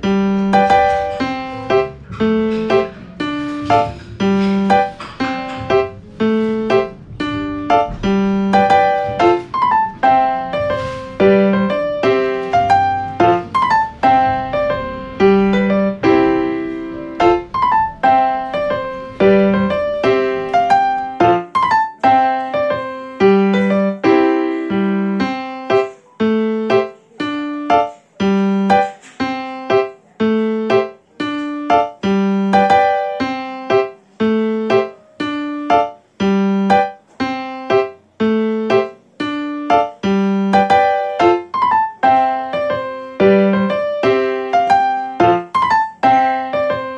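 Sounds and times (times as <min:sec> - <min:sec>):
solo piano music: 0:00.0 - 0:46.9.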